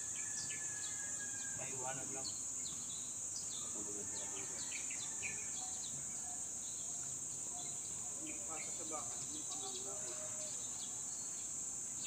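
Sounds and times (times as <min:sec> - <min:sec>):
insects droning: 0:00.0 - 0:12.0
birds chirping: 0:00.9 - 0:12.0.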